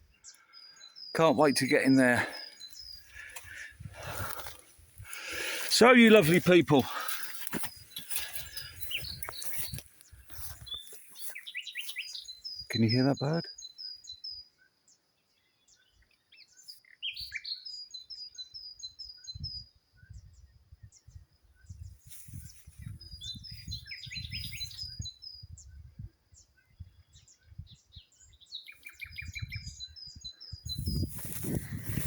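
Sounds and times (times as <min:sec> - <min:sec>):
small songbird singing: 0:00.0 - 0:32.0.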